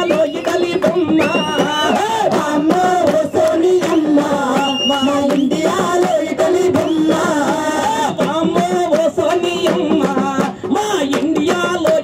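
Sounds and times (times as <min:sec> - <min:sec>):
man singing over a pa: 0:00.0 - 0:12.0
percussion hits: 0:00.0 - 0:12.0.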